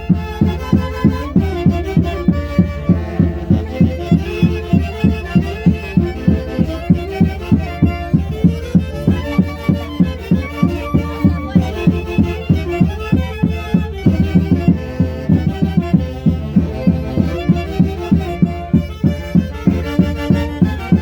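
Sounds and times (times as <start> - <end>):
folk orchestra melody: 0.0 - 21.0
steady drum beat: 0.0 - 21.0.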